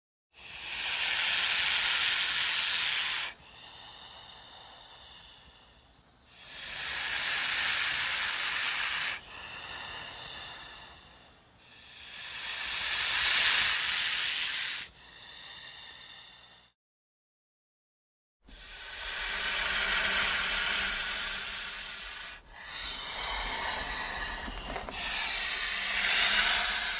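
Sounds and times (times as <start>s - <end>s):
snake hissing: 0.4s - 16.8s, 18.5s - 26.9s.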